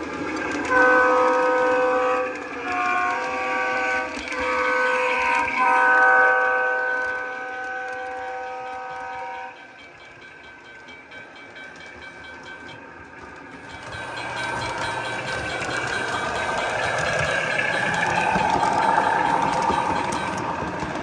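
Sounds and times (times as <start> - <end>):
light even clicking of train: 0.0 - 21.0
model train rumbling on track: 0.0 - 21.0.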